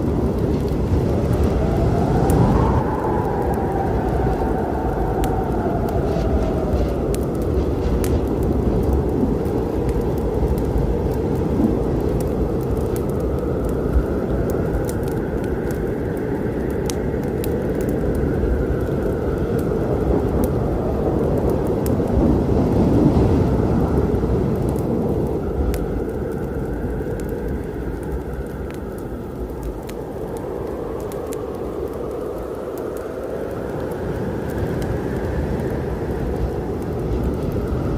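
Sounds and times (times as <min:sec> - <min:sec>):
rain: 0:00.0 - 0:37.9
thunder rumbling: 0:00.0 - 0:37.9
wood fire crackling: 0:00.0 - 0:37.9.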